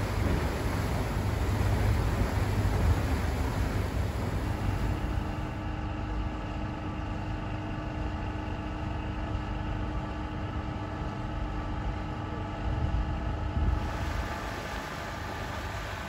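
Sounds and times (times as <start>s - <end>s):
boat engine hum and rumble: 0.0s - 16.0s.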